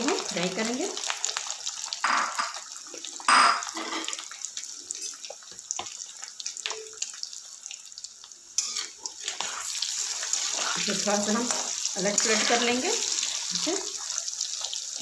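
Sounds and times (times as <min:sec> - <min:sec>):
potatoes deep-frying in oil: 0:00.0 - 0:15.0.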